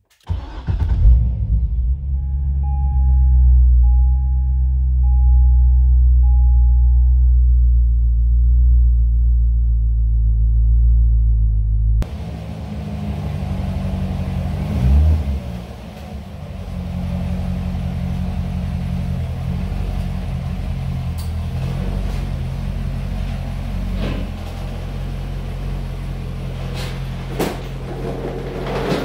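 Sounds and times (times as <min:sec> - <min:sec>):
car engine idling and revving: 0:00.3 - 0:29.0.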